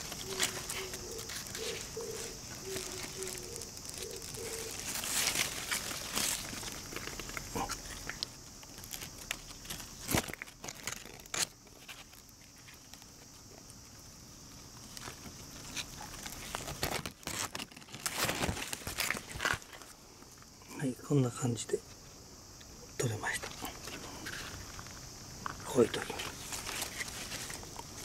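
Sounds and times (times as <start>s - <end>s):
hands rustling leaves: 0.0s - 20.0s, 23.1s - 28.0s
scrabbling in gravelly soil: 0.0s - 20.9s, 23.0s - 28.0s.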